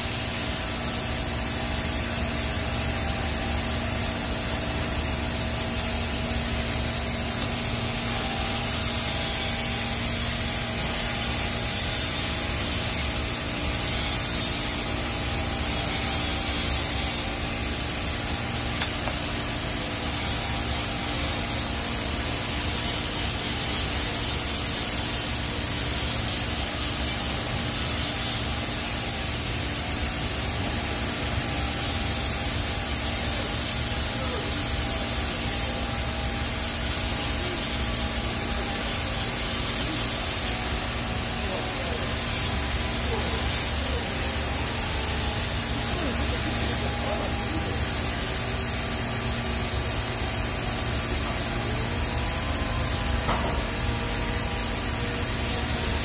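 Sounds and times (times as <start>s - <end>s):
welding arc hissing: 0.0s - 56.0s.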